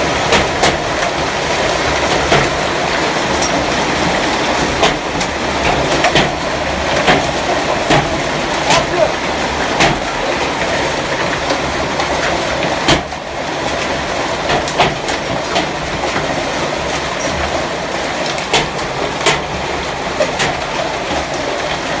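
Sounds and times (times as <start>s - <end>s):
sharp hail strikes: 0.0s - 22.0s.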